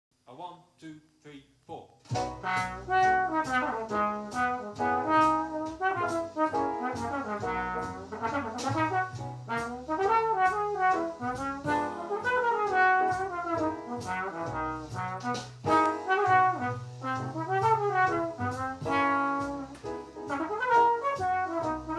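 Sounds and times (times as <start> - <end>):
accompaniment with held bass notes: 2.1 - 21.9
trombone playing quick notes: 2.1 - 21.9.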